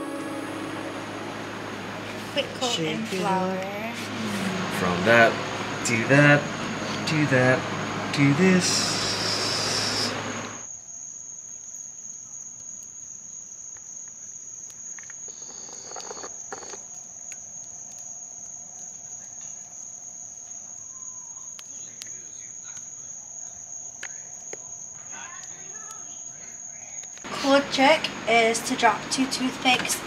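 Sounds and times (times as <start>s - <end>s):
crickets trilling: 0.0s - 29.8s.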